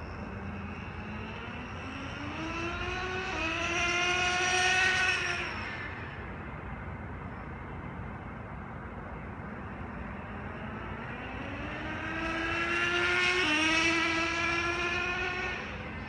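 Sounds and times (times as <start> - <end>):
rc car engine passing by: 0.0 - 6.5, 9.6 - 16.0.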